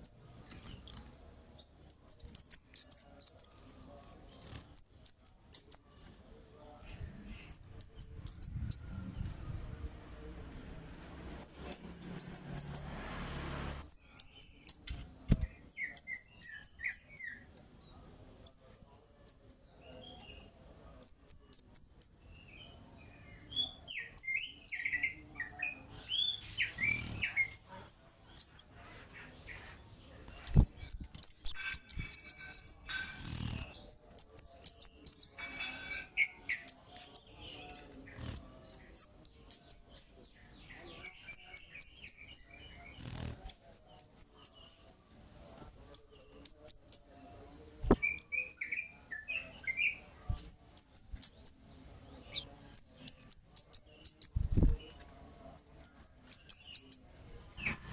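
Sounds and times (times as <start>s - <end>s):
songbird sharp high chirps: 0.0s - 0.9s, 1.6s - 3.6s, 4.5s - 6.2s, 7.2s - 9.0s, 11.4s - 13.0s, 13.8s - 28.8s, 30.3s - 45.3s, 45.9s - 47.2s, 47.8s - 54.7s, 55.6s - 57.9s.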